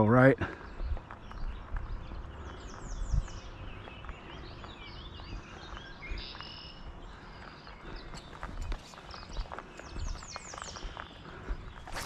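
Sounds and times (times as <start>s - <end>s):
songbirds singing: 0.0s - 12.0s
wind rumble on microphone: 0.7s - 7.2s, 7.8s - 12.0s.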